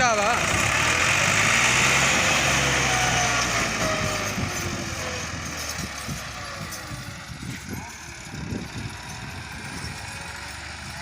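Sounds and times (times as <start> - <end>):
tractor diesel engine running hard: 0.0 - 11.0.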